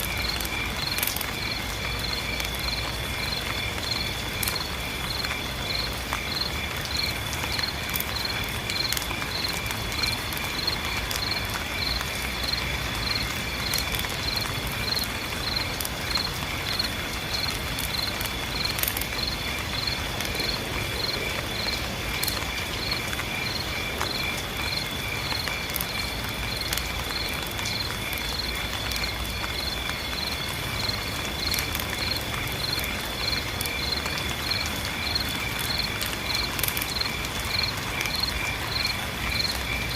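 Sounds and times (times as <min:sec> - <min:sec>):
night insects chirping: 0:00.0 - 0:39.9
rain falling: 0:00.0 - 0:39.9.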